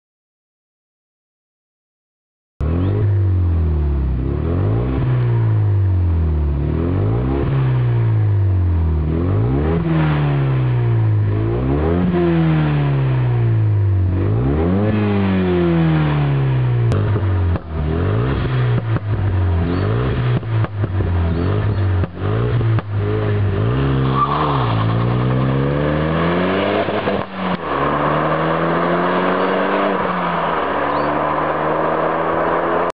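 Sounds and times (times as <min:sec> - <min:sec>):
car engine revving: 0:02.6 - 0:32.9.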